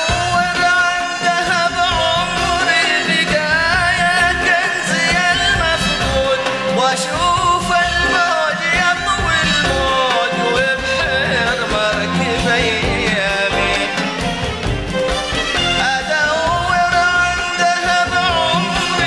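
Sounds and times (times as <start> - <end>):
man singing ornamented melody: 0.0 - 14.2, 15.8 - 19.0
string orchestra accompaniment: 0.0 - 19.0.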